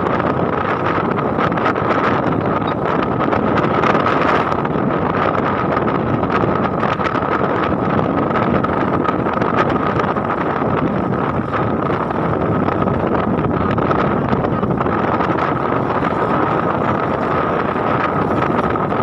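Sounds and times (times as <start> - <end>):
vehicle running noise: 0.0 - 19.0
wind rushing over microphone: 0.0 - 19.0.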